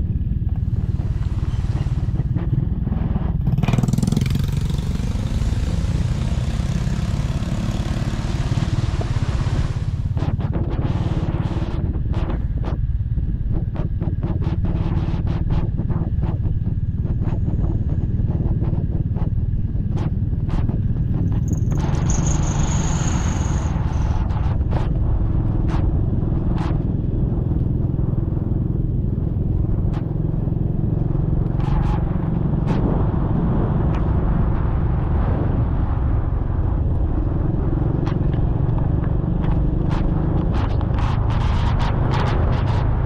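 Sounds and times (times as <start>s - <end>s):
motorcycle engine rumbling: 0.0s - 43.0s.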